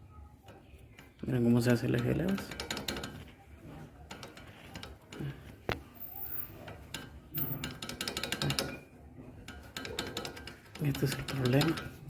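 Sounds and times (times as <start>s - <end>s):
metal-on-metal clicks and knocks: 1.7s - 12.0s.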